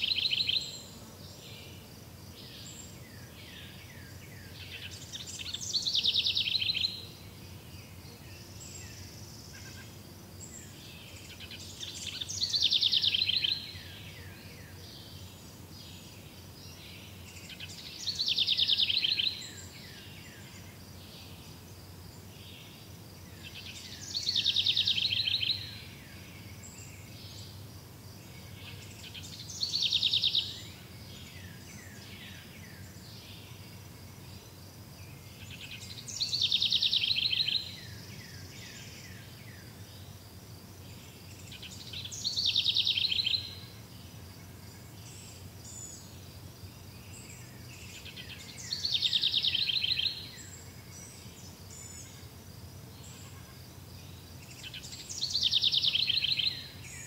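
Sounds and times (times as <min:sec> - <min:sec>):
outdoor background noise: 0:00.0 - 0:57.0
songbird song with rattling trill: 0:00.0 - 0:57.0.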